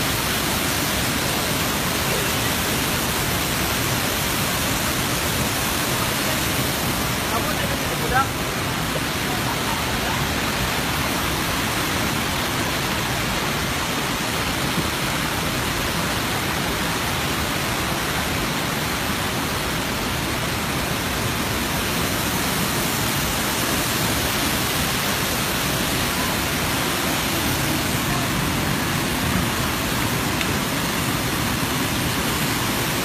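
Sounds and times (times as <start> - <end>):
water cascading over rocks: 0.0 - 33.0.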